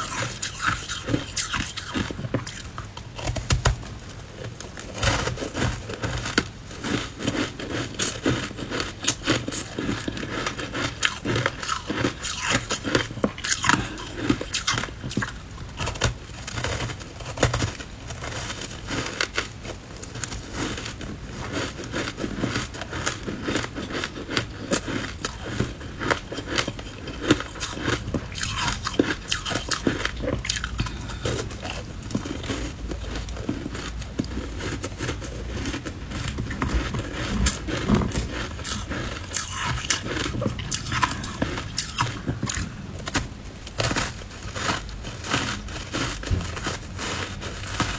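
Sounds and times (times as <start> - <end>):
ice crunching while chewed: 0.0 - 47.9.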